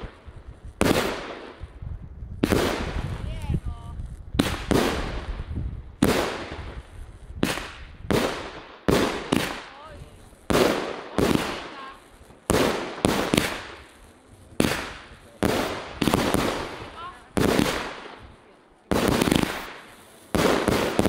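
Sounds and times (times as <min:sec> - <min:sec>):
fireworks bangs echoing: 0:00.0 - 0:01.8, 0:02.4 - 0:03.4, 0:04.4 - 0:21.0.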